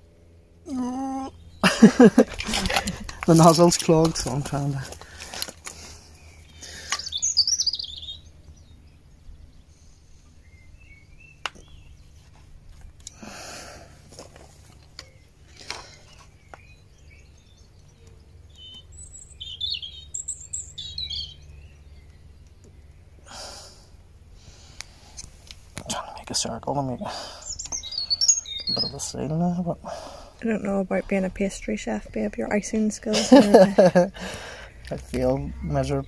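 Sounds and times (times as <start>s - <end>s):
low steady hum: 0.0s - 36.0s
small birds chirping: 0.0s - 36.0s.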